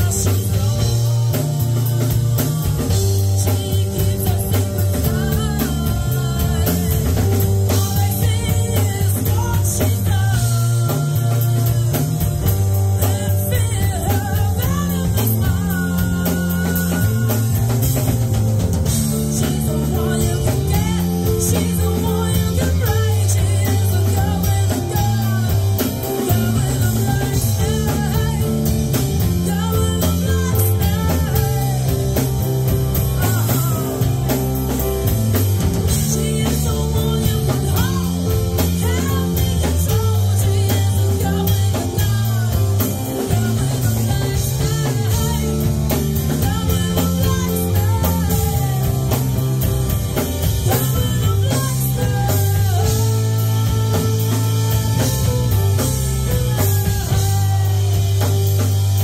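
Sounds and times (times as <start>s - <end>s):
drum kit: 0.0s - 59.0s
electric bass: 0.0s - 59.0s
electric guitar: 0.0s - 59.0s
woman singing into microphone: 0.0s - 59.0s.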